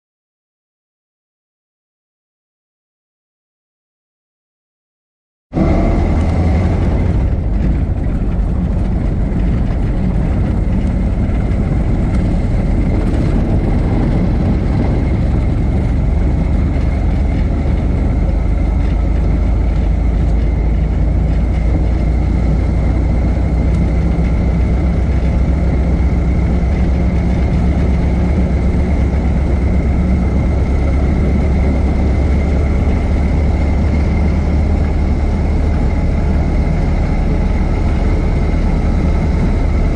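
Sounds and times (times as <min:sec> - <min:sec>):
car engine running: 0:05.6 - 0:39.9.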